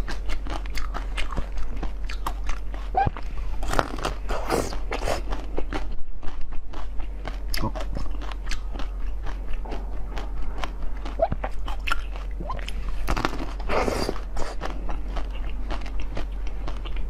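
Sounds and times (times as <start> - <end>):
crisp crunching and chewing: 0.0 - 17.0.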